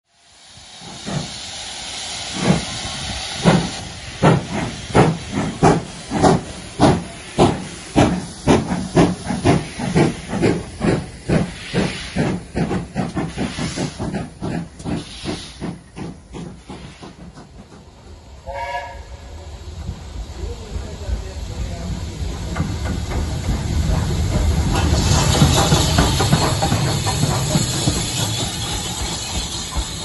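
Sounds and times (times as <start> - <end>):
steam locomotive exhaust beats: 0.1 - 30.0
steam locomotive hissing: 0.1 - 30.0.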